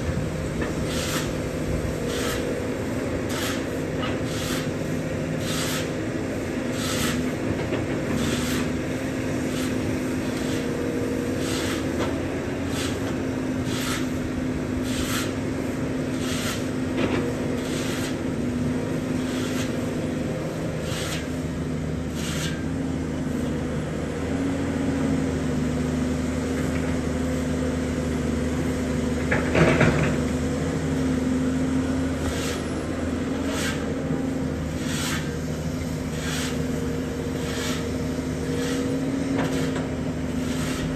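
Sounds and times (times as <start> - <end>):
brooms sweeping road: 0.0 - 24.5, 26.2 - 40.9
excavator diesel engine running: 0.0 - 40.9.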